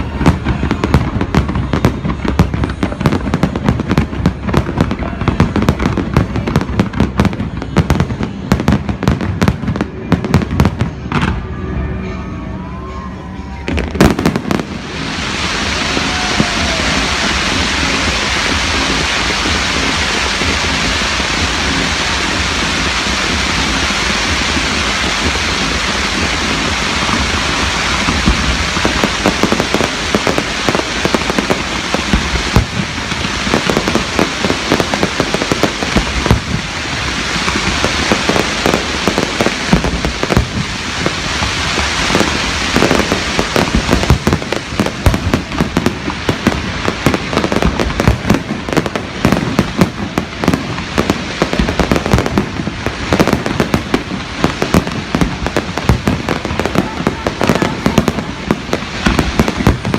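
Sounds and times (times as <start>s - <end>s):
fireworks crackling hiss: 0.0s - 11.4s, 13.5s - 59.9s
fireworks bangs and crackles: 0.0s - 11.9s, 13.4s - 59.9s.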